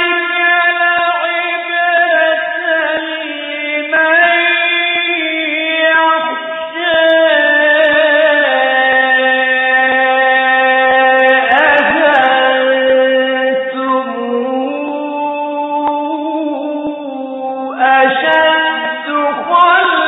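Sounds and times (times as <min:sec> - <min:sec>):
man reciting melodically: 0:00.0 - 0:20.0.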